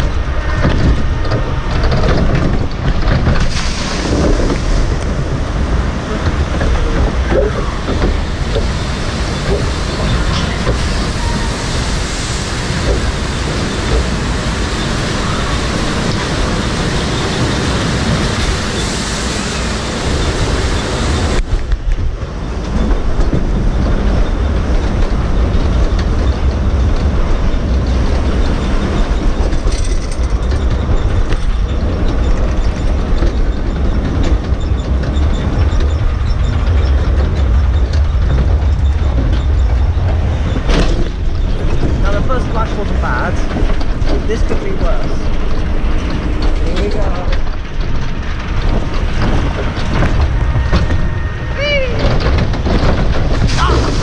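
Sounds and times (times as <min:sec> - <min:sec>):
scattered clatter: 0:00.0 - 0:11.2, 0:12.5 - 0:54.0
water rushing and splashing: 0:00.0 - 0:34.0, 0:34.6 - 0:47.4, 0:48.6 - 0:54.0
low mechanical rumble: 0:00.0 - 0:54.0.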